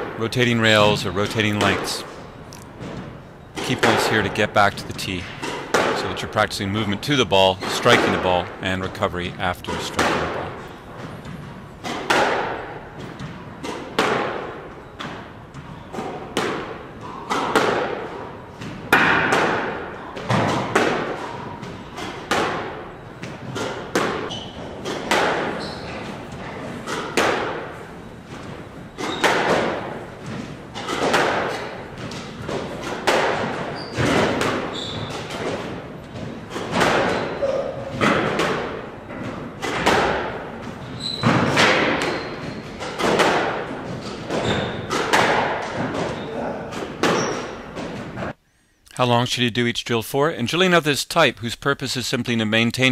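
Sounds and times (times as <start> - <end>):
racket striking squash ball: 0.8 - 4.5, 5.2 - 6.1, 9.7 - 48.4.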